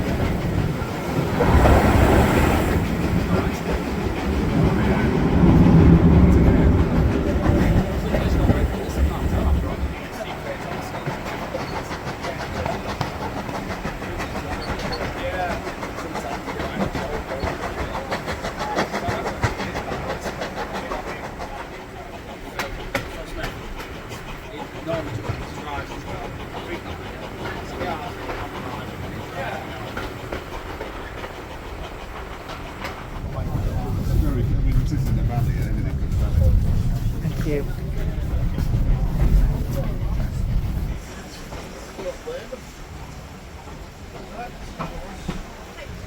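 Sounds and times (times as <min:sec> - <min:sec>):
train wheels on rails: 0:00.0 - 0:46.0.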